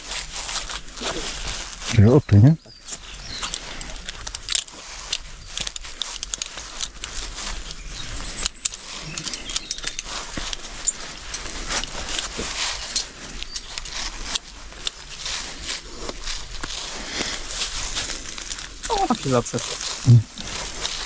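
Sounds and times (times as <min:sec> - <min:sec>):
rope and clothing rustling: 0:00.0 - 0:21.0.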